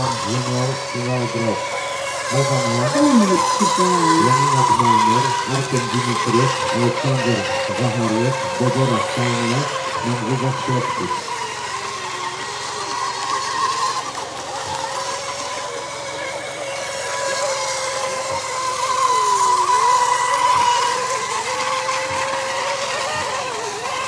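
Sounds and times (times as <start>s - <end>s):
rc boat electric whine: 0.0s - 24.0s.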